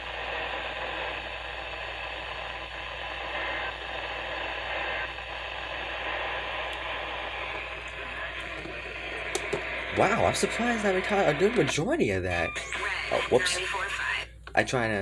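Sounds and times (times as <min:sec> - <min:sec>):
radio hiss and static: 0:00.0 - 0:15.0.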